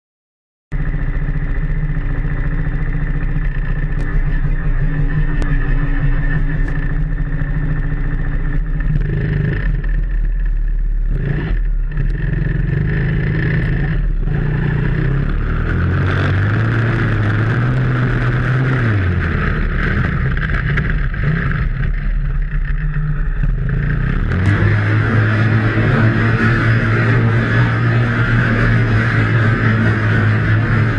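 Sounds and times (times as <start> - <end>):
small atv engine running and revving: 0.8 - 30.9.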